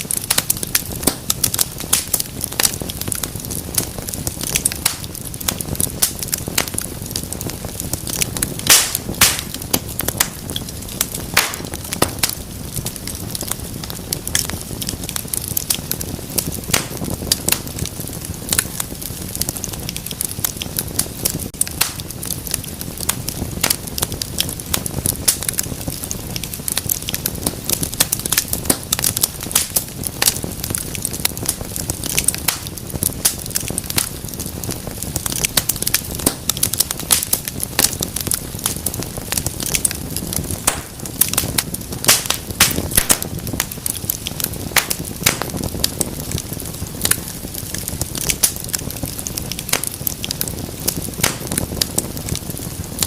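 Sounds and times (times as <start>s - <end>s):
fire crackling and popping: 0.0s - 53.0s
rushing flames: 0.0s - 53.0s.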